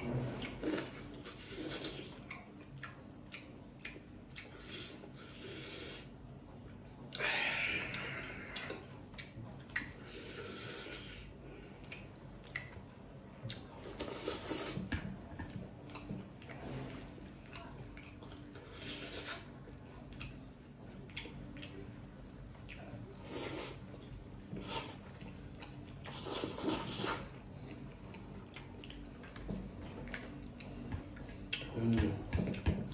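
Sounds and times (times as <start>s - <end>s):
noodles slurped and chewed: 0.1s - 6.2s, 7.2s - 32.3s.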